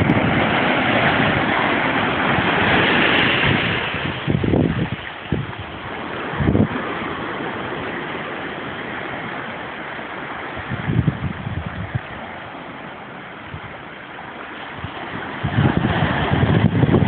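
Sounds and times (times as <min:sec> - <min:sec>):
low surf rumbles: 0:00.0 - 0:17.0
ocean surf on rocks: 0:00.0 - 0:17.0.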